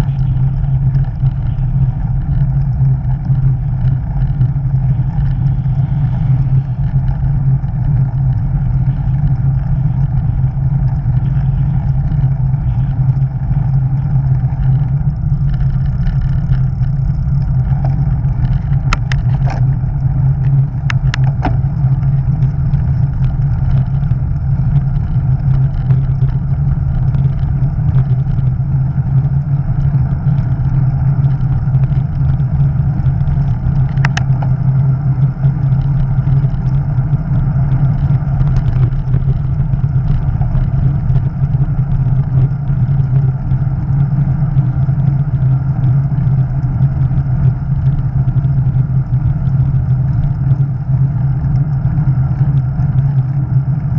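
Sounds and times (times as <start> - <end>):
vehicle travel rumble: 0.0 - 53.9
wind noise: 0.0 - 53.9.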